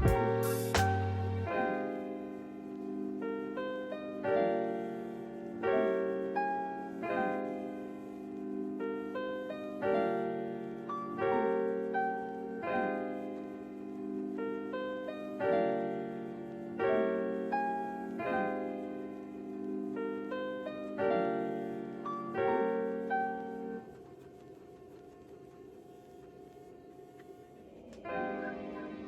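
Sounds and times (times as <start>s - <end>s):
piano chords: 0.0s - 29.0s.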